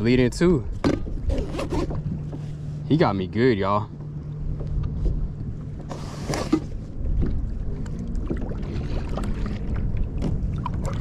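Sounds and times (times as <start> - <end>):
water lapping against kayak hull: 0.0 - 11.0
wind rumbling on microphone: 0.0 - 11.0.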